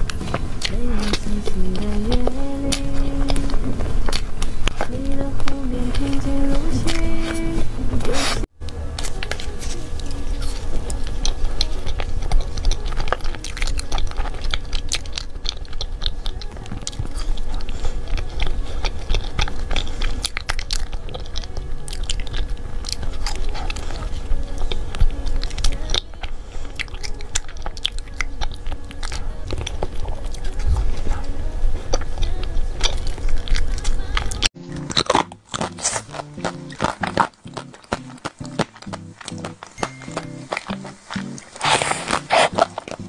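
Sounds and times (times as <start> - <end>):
biting and chewing: 0.0 - 43.0
wet mouth sounds: 0.0 - 43.0
crisp crackles: 8.2 - 43.0.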